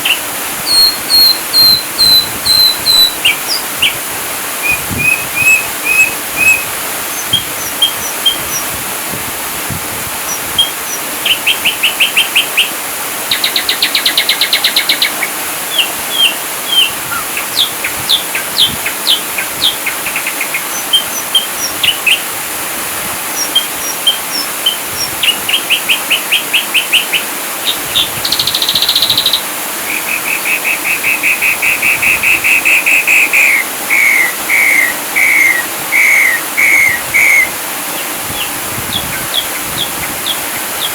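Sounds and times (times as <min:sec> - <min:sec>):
bird singing whistles and trills: 0:00.0 - 0:04.0, 0:04.6 - 0:08.7, 0:10.3 - 0:22.2, 0:23.4 - 0:37.5, 0:38.3 - 0:40.9
steady hiss: 0:00.0 - 0:40.9.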